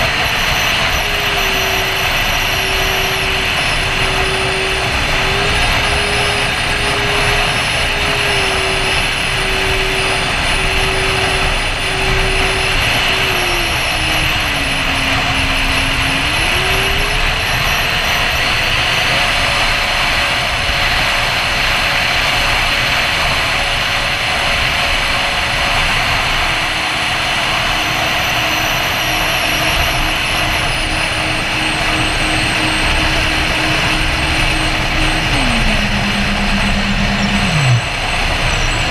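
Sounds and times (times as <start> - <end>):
electric ducted fans whining: 0.0 - 38.9
thin wavering high whine: 0.0 - 38.9.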